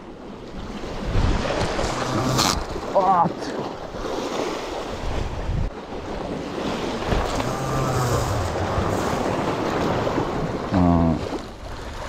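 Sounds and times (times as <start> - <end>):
surf washing against rocks: 0.0 - 12.0
wind buffeting microphone: 0.4 - 12.0.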